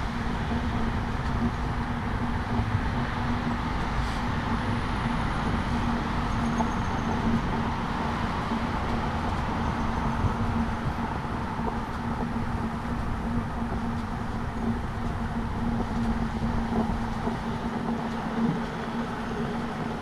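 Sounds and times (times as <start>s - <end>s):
constant low hum: 0.0s - 20.0s
road vehicles rumbling: 0.0s - 20.0s.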